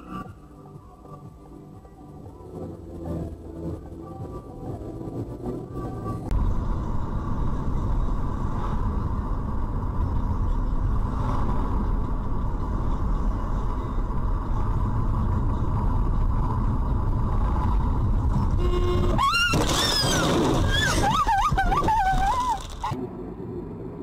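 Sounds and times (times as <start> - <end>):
road noise: 0.0 - 24.0
car engine: 1.4 - 24.0.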